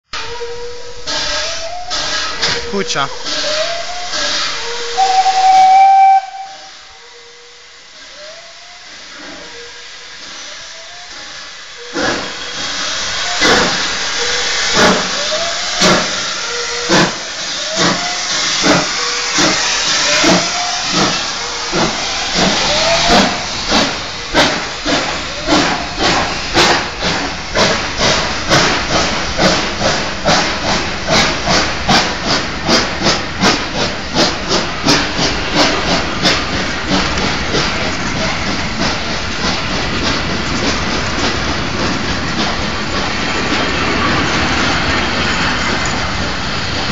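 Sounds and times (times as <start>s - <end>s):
steam locomotive exhaust chuffs: 0.1s - 46.9s
steam hissing: 0.2s - 46.9s.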